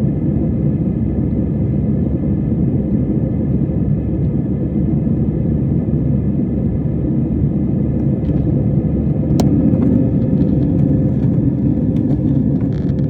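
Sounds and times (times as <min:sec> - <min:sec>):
faint steady hum: 0:00.0 - 0:13.0
jet engines cabin rumble: 0:00.0 - 0:13.0.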